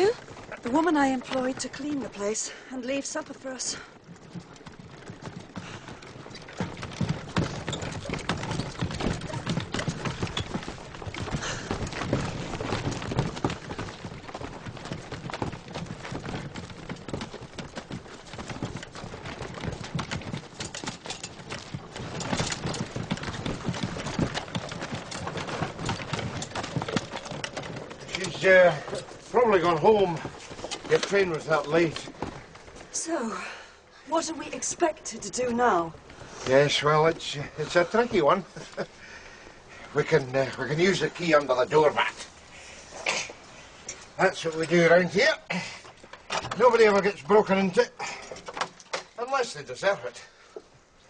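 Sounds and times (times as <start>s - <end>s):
small knocks on rough track: 0.0s - 33.6s, 34.2s - 50.7s
horse hooves clopping: 0.0s - 51.0s.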